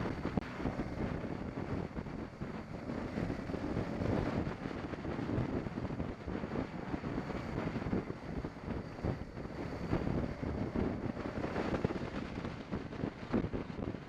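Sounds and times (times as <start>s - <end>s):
road and vehicle noise: 0.0s - 14.0s
wind buffeting microphone: 0.0s - 14.0s.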